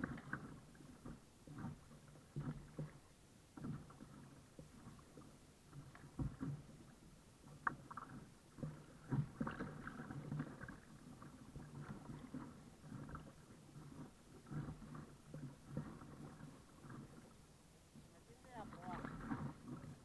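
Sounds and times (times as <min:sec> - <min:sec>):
paddle splashing in water: 0:00.0 - 0:20.0
water slapping against hull: 0:00.0 - 0:20.0.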